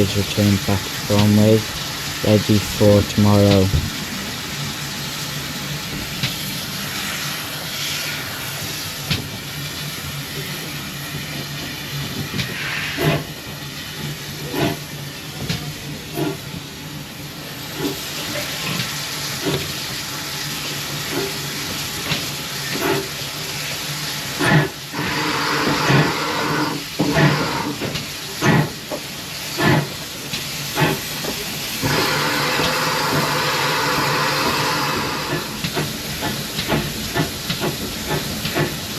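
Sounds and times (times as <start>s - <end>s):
steam train hissing: 0.0s - 38.9s.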